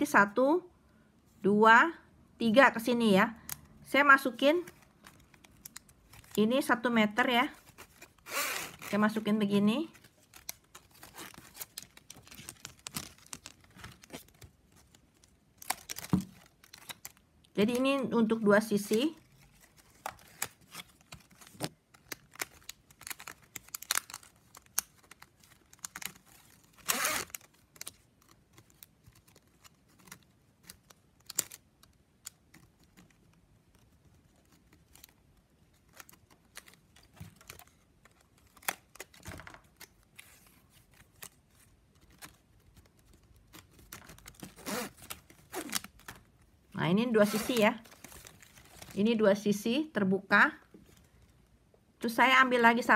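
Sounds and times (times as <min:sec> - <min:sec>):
plastic strip crinkling and clicking: 0:04.5 - 0:06.7, 0:07.6 - 0:46.7, 0:47.3 - 0:49.1
plastic rustles: 0:04.6 - 0:49.3.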